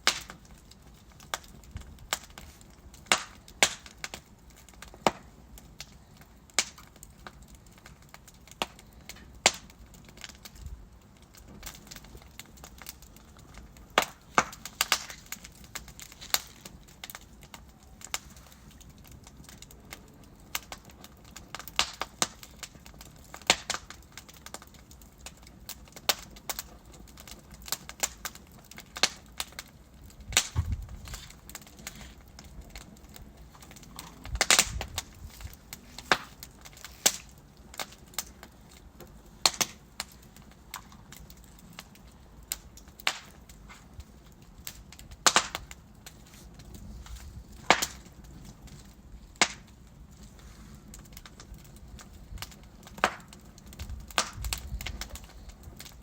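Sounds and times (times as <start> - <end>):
low hiss of fire: 0.0 - 56.0
wood logs crackling in fireplace: 0.0 - 56.0.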